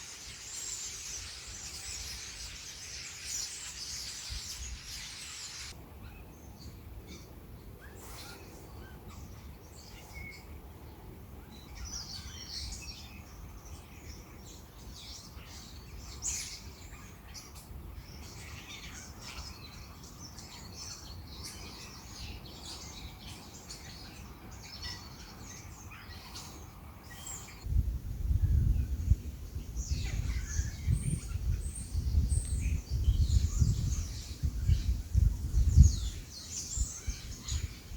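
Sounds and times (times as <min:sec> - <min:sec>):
birds calling and chirping: 0:00.0 - 0:27.7, 0:28.5 - 0:37.9.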